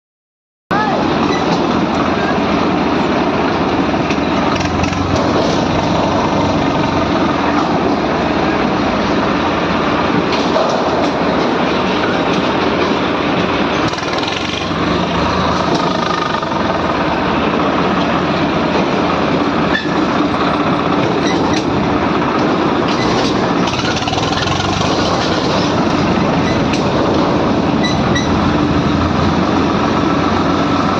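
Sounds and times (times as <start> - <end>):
tractor engine running: 1.5 - 30.9.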